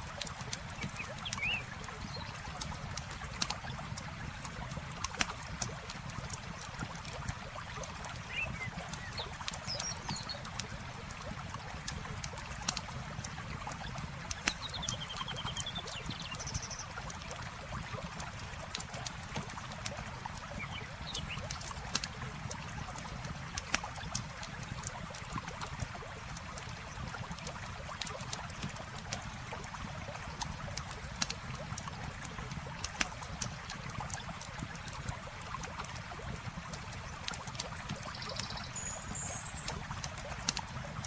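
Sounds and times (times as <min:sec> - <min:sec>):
river water flowing: 0:00.0 - 0:41.0
campfire crackling and popping: 0:00.1 - 0:38.4, 0:39.0 - 0:41.0.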